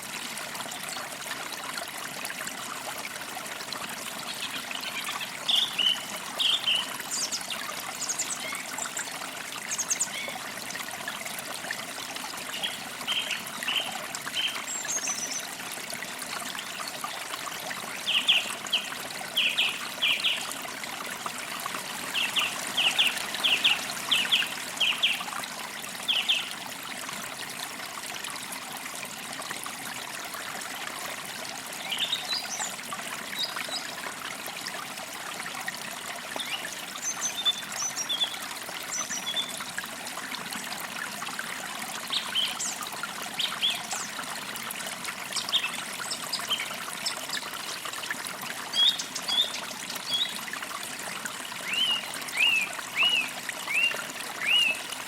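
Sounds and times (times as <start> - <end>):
creek trickling: 0.0 - 55.0.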